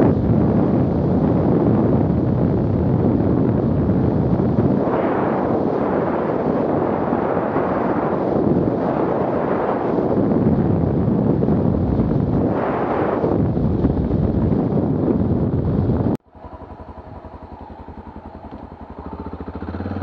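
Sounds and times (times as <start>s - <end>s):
motorcycle running: 0.0s - 20.0s
wind buffeting microphone: 0.0s - 20.0s.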